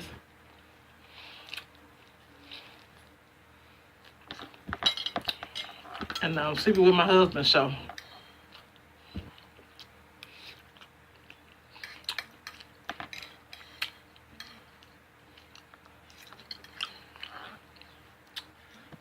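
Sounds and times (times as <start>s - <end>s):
person chewing food: 0.5s - 3.2s, 4.0s - 6.2s, 7.9s - 19.0s.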